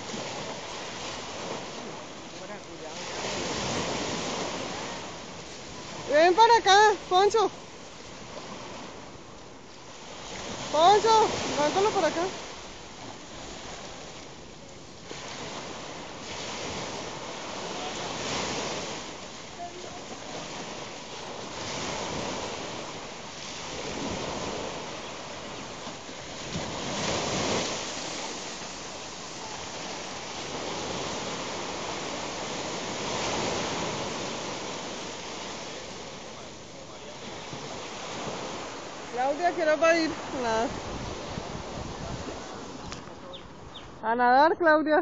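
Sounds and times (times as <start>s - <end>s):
surf washing onto beach: 0.0s - 45.0s
wind on microphone: 3.0s - 36.5s, 37.2s - 45.0s.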